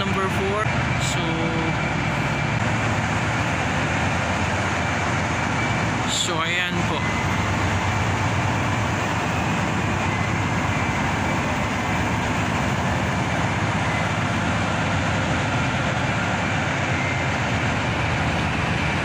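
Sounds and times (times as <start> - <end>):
conveyor belts rumbling: 0.0 - 19.0.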